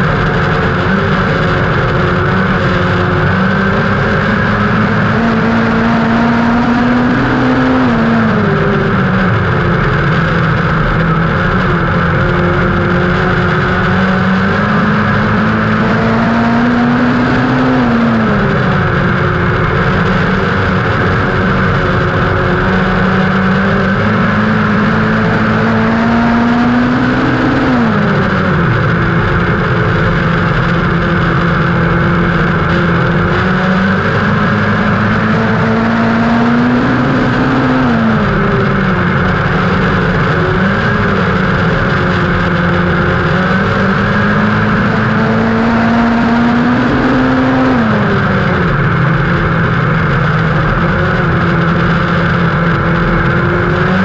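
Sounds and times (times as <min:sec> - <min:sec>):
race car engine revving: 0:00.0 - 0:54.0
wind and tyre rush: 0:00.0 - 0:54.0.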